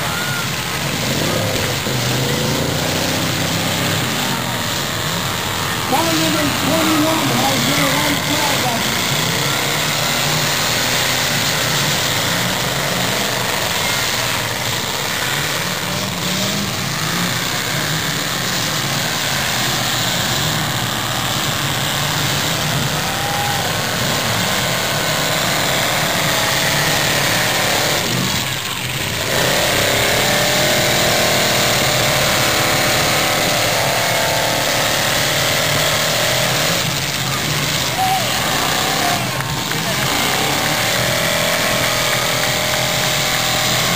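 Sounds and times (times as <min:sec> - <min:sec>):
car engines revving: 0:00.0 - 0:43.9.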